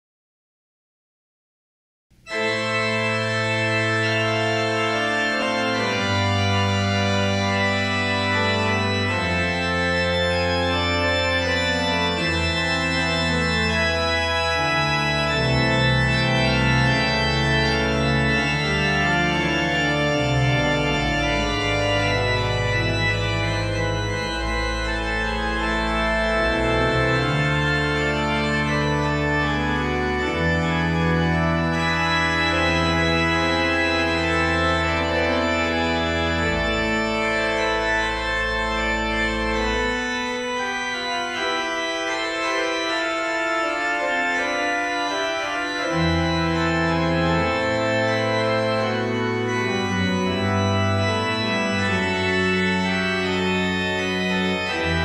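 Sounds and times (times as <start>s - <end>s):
church organ chords: 2.2s - 55.0s.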